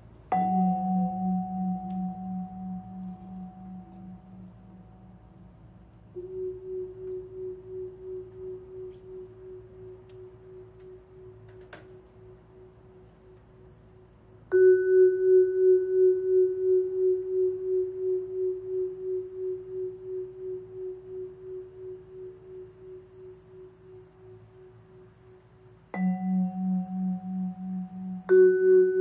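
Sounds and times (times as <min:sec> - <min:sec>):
vibraphone notes with vibrato: 0:00.0 - 0:13.7, 0:14.5 - 0:25.2, 0:25.8 - 0:29.0.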